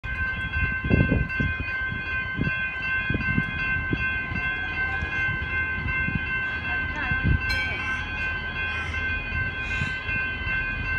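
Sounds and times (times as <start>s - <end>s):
level crossing warning bells: 0.0s - 10.9s.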